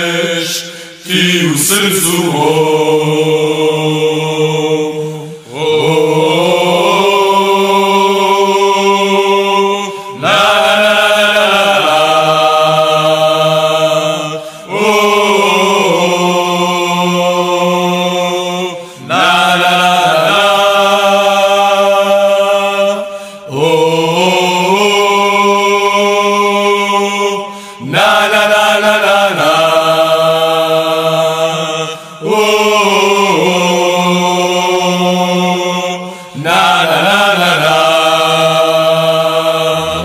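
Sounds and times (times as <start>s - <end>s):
chant-like song: 0.0s - 40.0s.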